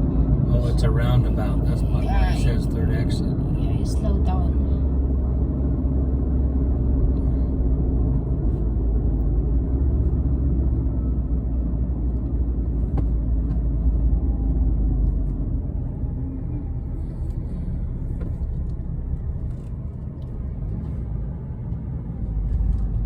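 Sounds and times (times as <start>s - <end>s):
car interior road noise: 0.0s - 23.0s.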